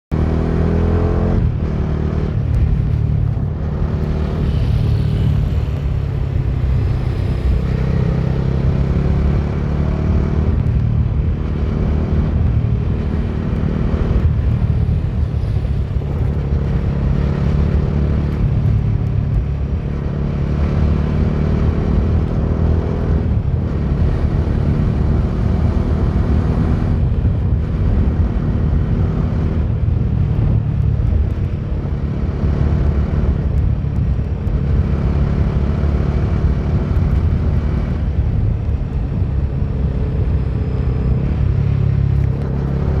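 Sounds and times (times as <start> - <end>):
motorcycle engine revving: 0.1 - 43.0.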